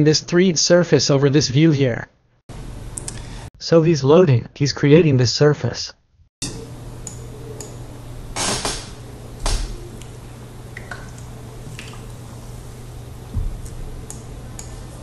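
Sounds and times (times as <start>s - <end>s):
low hum and hiss: 0.0s - 5.8s, 6.4s - 15.0s.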